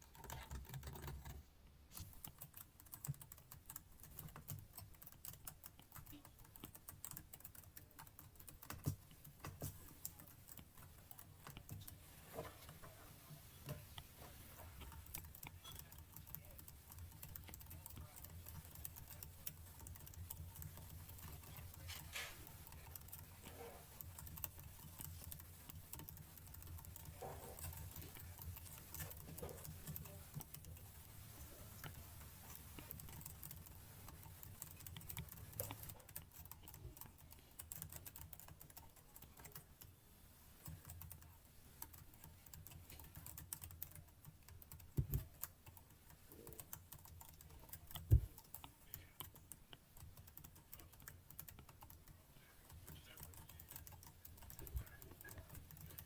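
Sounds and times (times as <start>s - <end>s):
keyboard keys typing: 0.0s - 39.9s, 40.6s - 56.0s.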